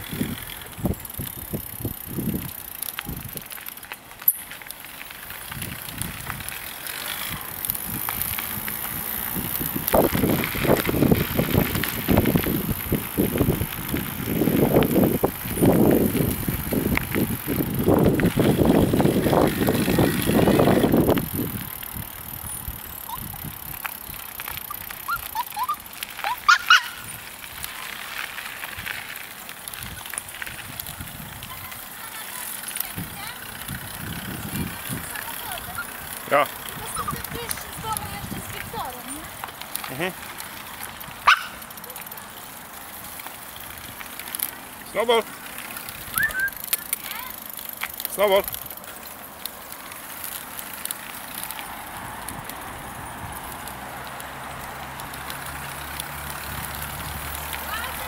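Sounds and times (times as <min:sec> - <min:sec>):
bicycle tyres rolling on gravel: 0:00.0 - 0:58.0.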